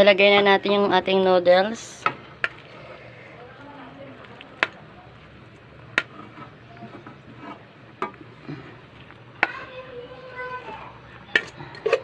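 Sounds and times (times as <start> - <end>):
wet stirring of pasta: 1.8 - 12.0.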